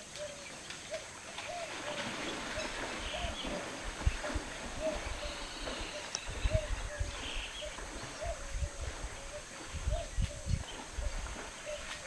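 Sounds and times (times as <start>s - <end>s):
bird calling: 0.0s - 12.0s
elephant sloshing through water: 1.2s - 12.0s.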